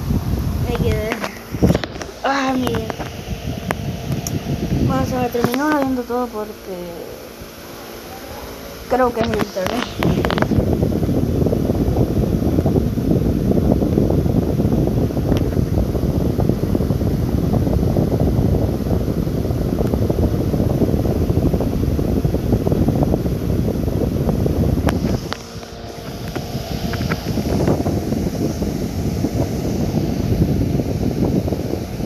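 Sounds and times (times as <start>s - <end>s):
steady low rumbling: 0.0s - 32.0s.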